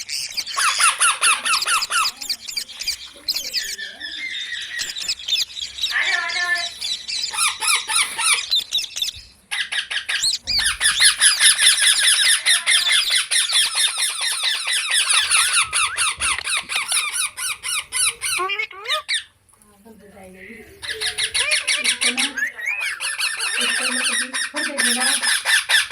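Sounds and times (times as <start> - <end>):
parrots chirping: 0.0 - 19.5, 20.1 - 25.9.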